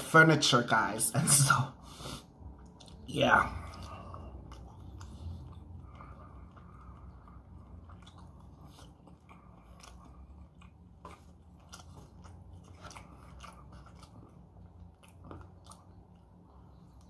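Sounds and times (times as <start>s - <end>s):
faint low hum: 0.0s - 17.0s
wet chewing mouth sounds: 2.2s - 17.0s.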